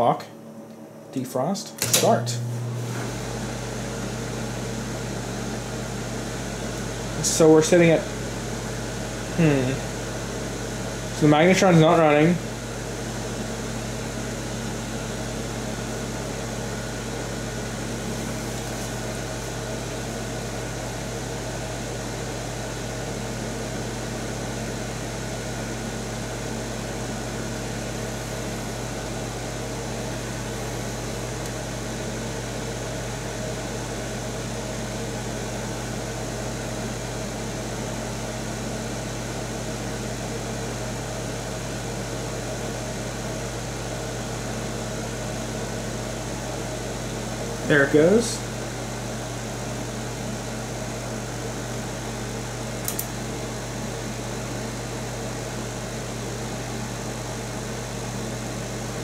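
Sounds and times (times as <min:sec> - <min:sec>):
microwave fan noise: 0:00.0 - 0:59.0
microwave oven humming: 0:00.0 - 0:59.0.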